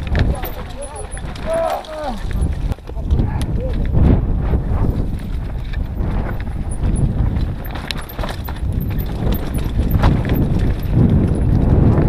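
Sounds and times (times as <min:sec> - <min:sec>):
bike knocking on bumps: 0:00.0 - 0:03.1, 0:04.8 - 0:12.0
mountain bike rattling: 0:00.0 - 0:12.0
wind rumble on microphone: 0:00.0 - 0:12.0.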